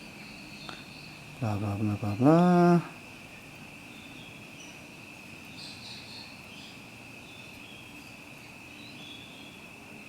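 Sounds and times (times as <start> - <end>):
crickets trilling: 0.0 - 10.0
faint high chirps: 0.0 - 10.0
low background hiss: 0.0 - 10.0.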